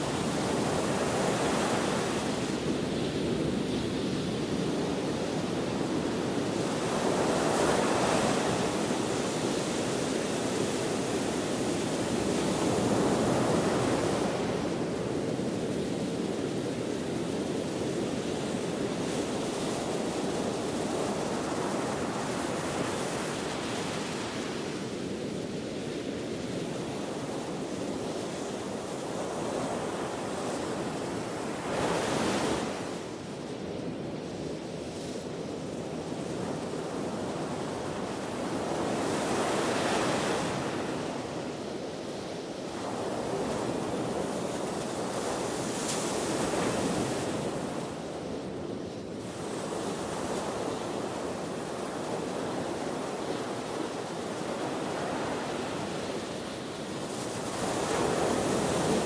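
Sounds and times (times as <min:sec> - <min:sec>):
ocean waves breaking on shore: 0:00.0 - 0:59.0
steady wind: 0:00.0 - 0:59.0.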